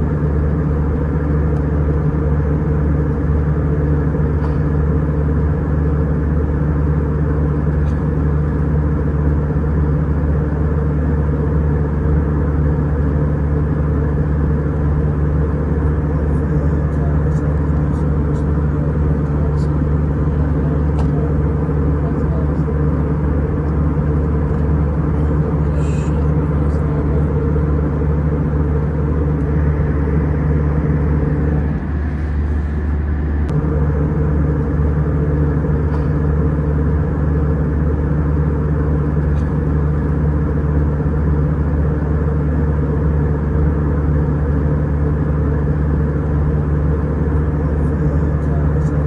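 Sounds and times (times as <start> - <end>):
airliner cabin drone: 0.0 - 49.0.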